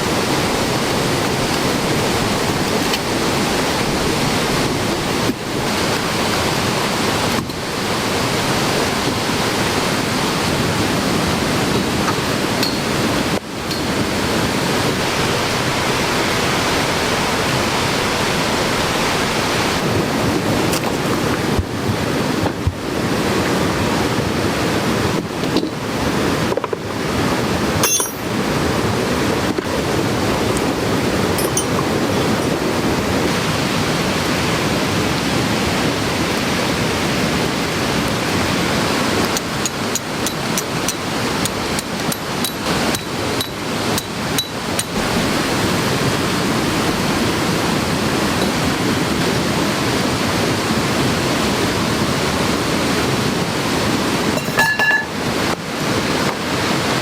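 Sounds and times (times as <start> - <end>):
heavy rain: 0.0 - 57.0
swollen stream rushing: 0.0 - 57.0.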